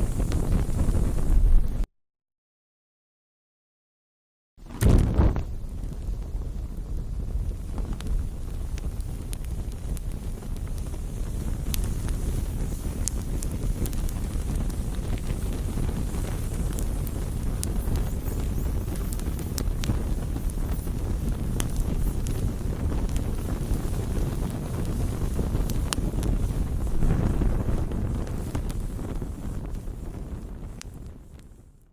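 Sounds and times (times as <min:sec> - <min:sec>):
wood fire crackling and popping: 0:00.0 - 0:01.9, 0:04.6 - 0:31.9.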